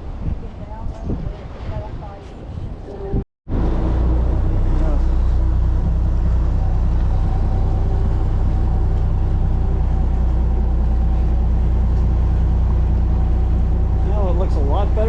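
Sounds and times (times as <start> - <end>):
boat engine low drone: 1.4 - 15.0.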